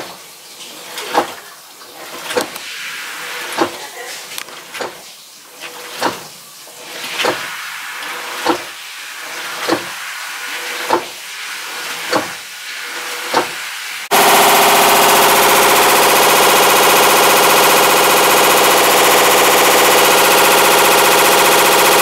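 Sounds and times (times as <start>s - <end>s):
washing machine churning: 0.0s - 22.0s.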